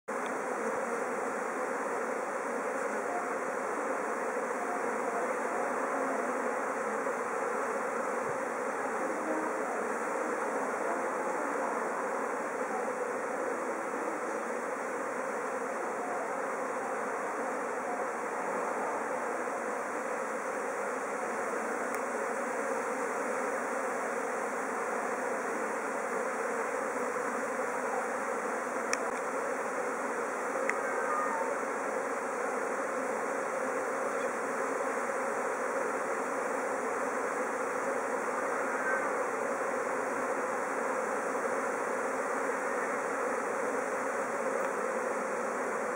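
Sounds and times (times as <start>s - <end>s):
bee swarm buzzing: 0.1s - 45.9s.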